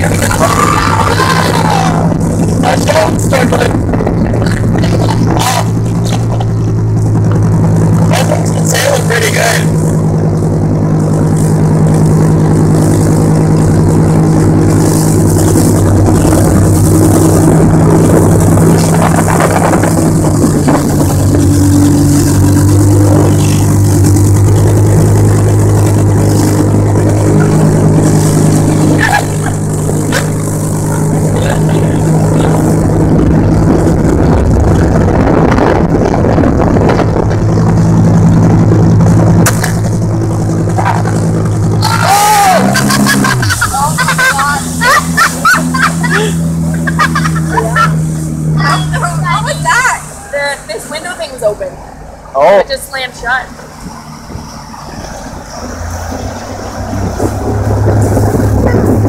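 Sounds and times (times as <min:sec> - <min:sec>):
churning wake and spray: 0:00.0 - 0:59.0
motorboat engine running: 0:00.0 - 0:59.0.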